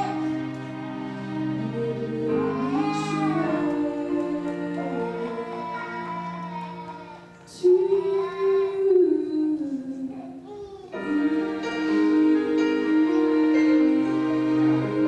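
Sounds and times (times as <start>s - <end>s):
high singing voice: 1.6s - 14.0s.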